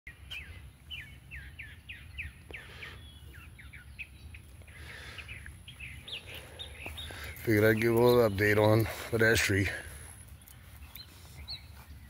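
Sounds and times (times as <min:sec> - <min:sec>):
songbird chirping: 0:00.1 - 0:12.0.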